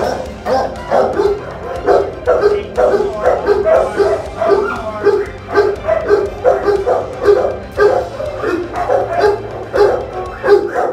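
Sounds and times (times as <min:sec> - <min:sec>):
dogs barking: 0:00.0 - 0:10.9.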